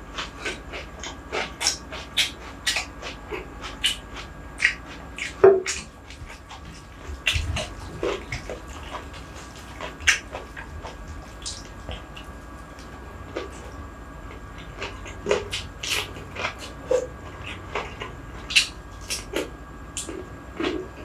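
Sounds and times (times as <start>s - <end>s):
chewing and mouth smacks: 0.1s - 21.0s.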